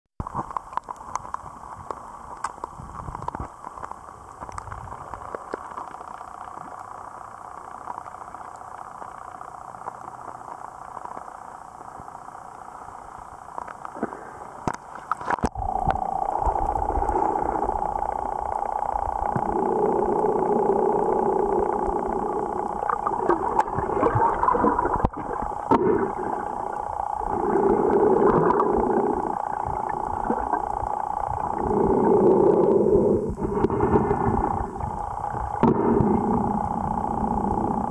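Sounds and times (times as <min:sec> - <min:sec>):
water sloshing and bubbling: 0:00.2 - 0:09.6, 0:12.0 - 0:37.9
muffled underwater hum: 0:00.2 - 0:37.9
underwater rushing noise: 0:00.2 - 0:37.9.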